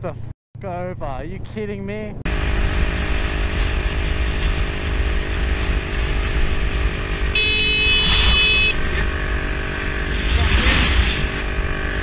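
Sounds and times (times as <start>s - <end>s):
motorcycle engine running: 2.3s - 12.0s.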